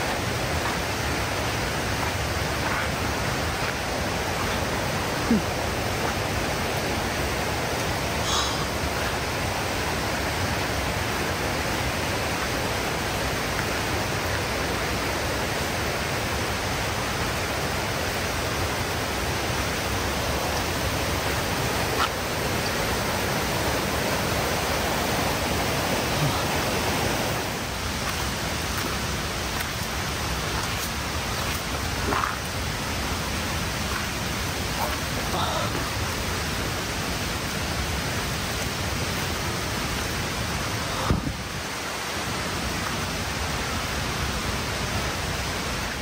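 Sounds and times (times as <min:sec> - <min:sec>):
falling water rushing: 0:00.0 - 0:46.0.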